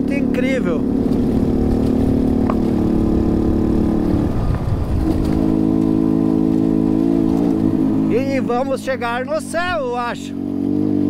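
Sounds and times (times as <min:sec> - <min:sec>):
motorcycle engine pulling uphill: 0:00.0 - 0:11.0.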